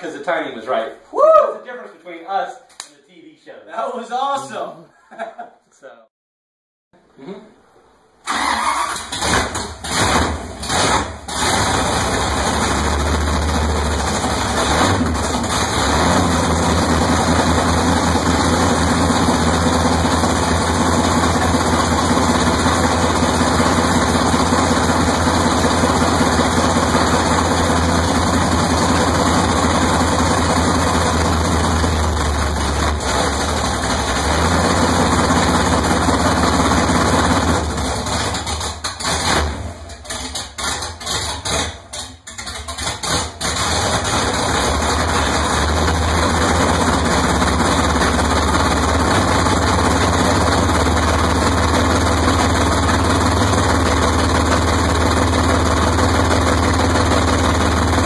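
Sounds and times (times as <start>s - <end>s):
car engine starting: 8.2s - 58.0s.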